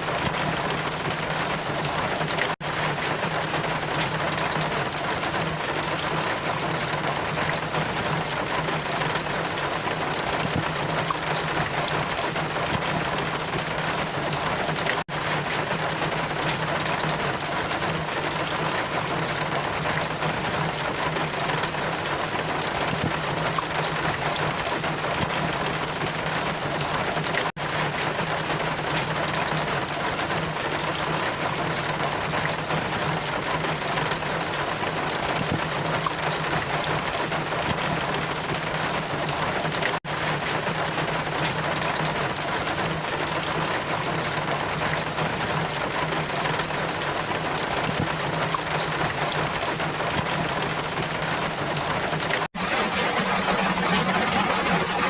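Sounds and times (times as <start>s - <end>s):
steady rain: 0.0s - 55.0s
wind: 0.0s - 55.0s.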